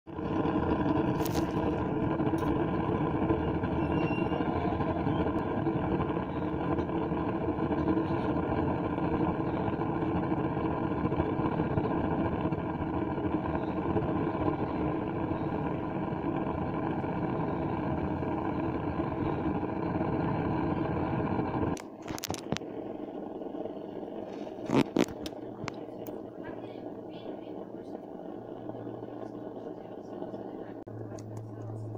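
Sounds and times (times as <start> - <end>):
stove burner combustion rumble: 0.1 - 31.9.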